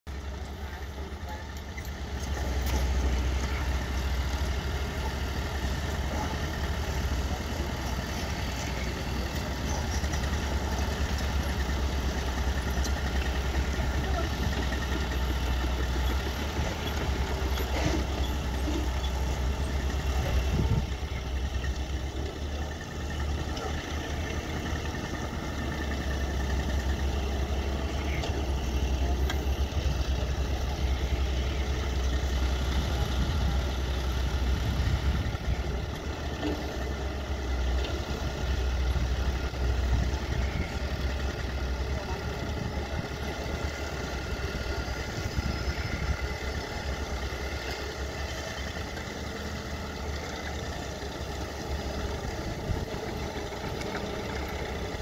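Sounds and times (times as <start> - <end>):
engine idling: 0.1 - 55.0.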